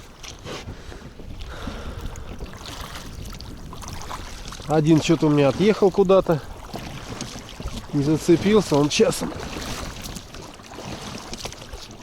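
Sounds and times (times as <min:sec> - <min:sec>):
water slapping against boat hull: 0:00.0 - 0:12.0
wind buffeting microphone: 0:00.0 - 0:12.0.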